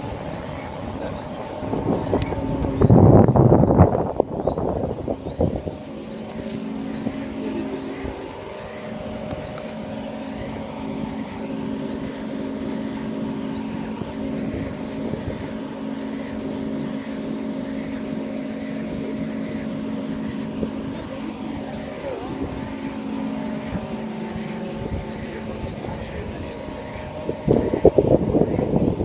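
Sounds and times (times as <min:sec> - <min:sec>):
electric fans humming: 0:00.0 - 0:29.0.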